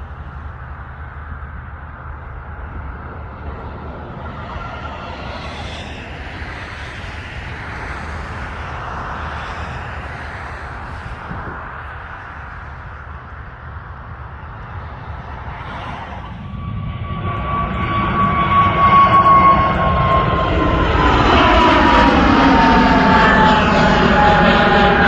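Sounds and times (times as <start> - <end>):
high engine whine: 0.0 - 25.0
jet engines rumbling: 0.0 - 25.0.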